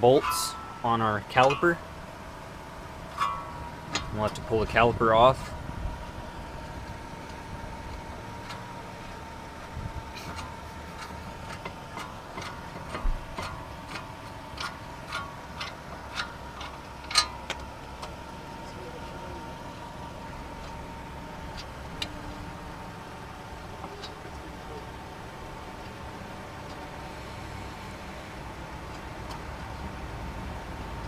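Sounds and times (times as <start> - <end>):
faint steady whine: 0.0 - 31.0.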